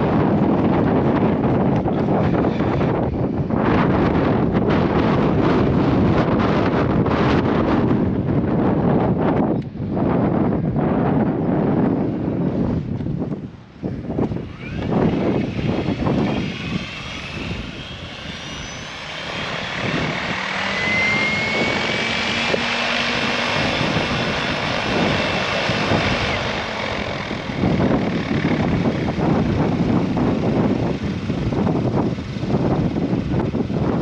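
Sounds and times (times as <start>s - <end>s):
high motor whine: 0.0s - 8.5s, 11.3s - 34.0s
helicopter rotors whirring: 0.0s - 34.0s
wind buffeting microphone: 0.0s - 34.0s.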